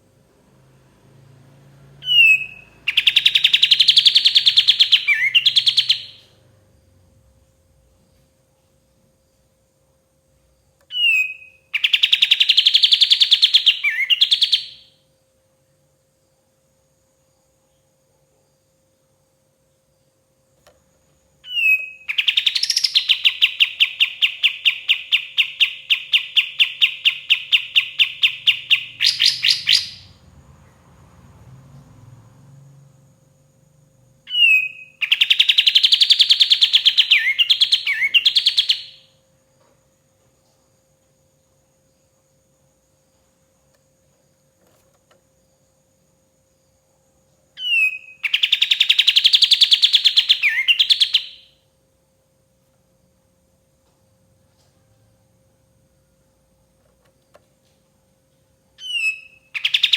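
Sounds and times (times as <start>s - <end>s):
songbird singing: 0.0s - 7.0s, 10.3s - 15.0s, 19.6s - 39.8s, 40.4s - 51.6s, 54.5s - 59.9s.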